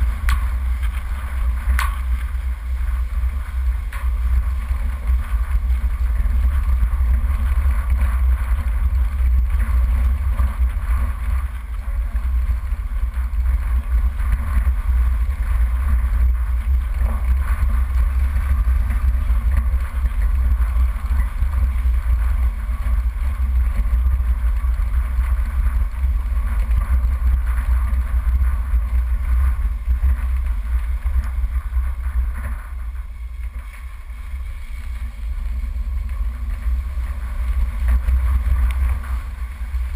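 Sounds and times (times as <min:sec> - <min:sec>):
off-road vehicle driving on dirt: 0:00.0 - 0:39.9.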